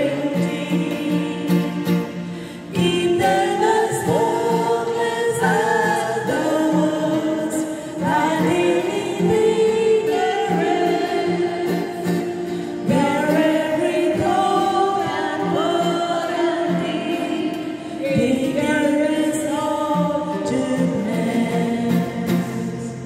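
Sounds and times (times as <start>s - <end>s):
women singing a hymn: 0.0s - 23.0s.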